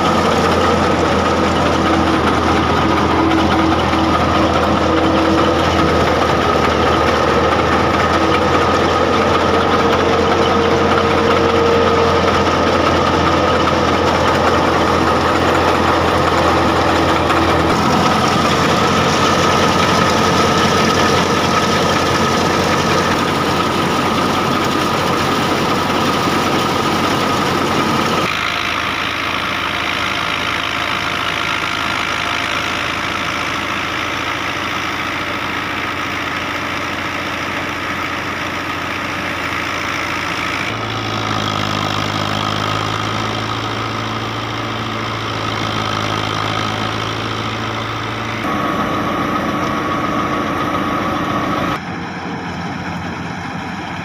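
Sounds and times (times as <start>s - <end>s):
thresher churning grain: 0.0s - 54.0s
tractor diesel engine: 0.0s - 54.0s.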